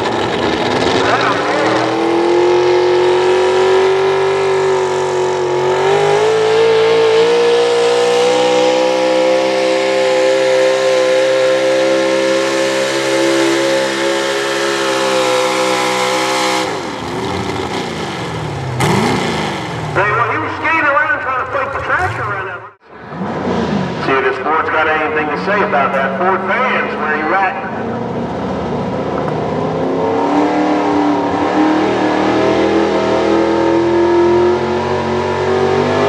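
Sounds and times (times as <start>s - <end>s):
truck engine at full throttle: 0.0s - 36.0s.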